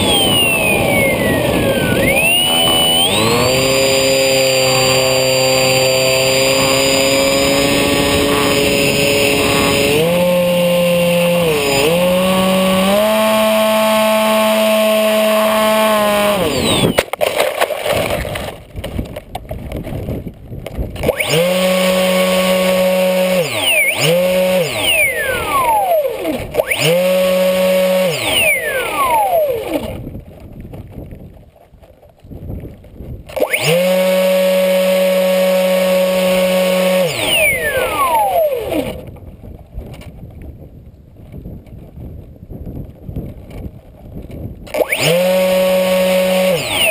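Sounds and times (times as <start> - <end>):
electric motor and propeller whine: 0.0 - 18.7, 20.6 - 30.9, 33.1 - 40.1, 44.2 - 46.9.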